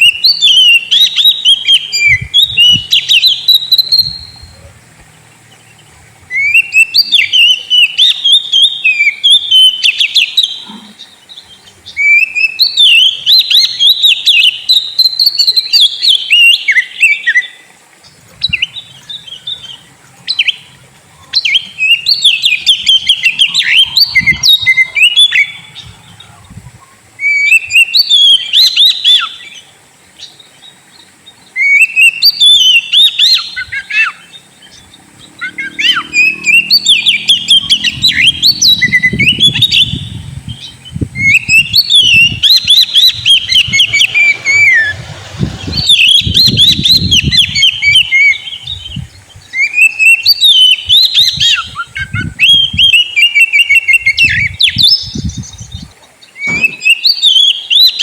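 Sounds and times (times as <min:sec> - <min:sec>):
bird singing whistled song: 0:00.0 - 0:04.6, 0:05.7 - 0:58.0.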